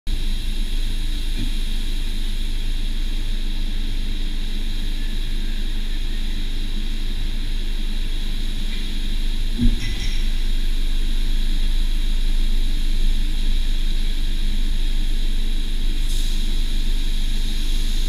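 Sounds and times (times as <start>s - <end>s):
car wash machinery drone: 0.1s - 18.0s.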